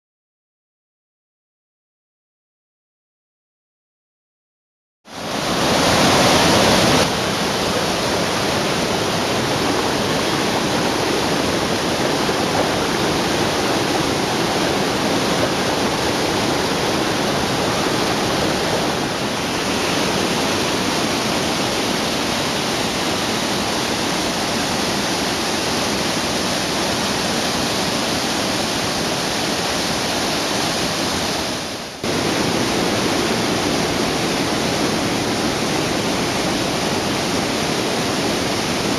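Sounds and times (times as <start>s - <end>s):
waterfall roaring: 5.1s - 38.9s.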